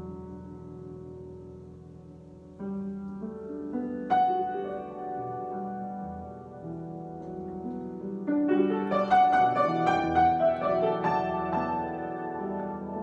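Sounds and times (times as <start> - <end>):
piano playing: 0.0 - 13.0.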